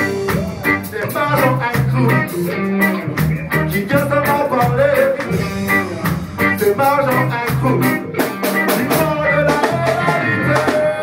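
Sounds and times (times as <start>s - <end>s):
bass guitar: 0.0s - 11.0s
drums: 0.0s - 11.0s
electric guitar: 0.0s - 11.0s
keyboard: 0.0s - 11.0s
person singing: 0.0s - 11.0s.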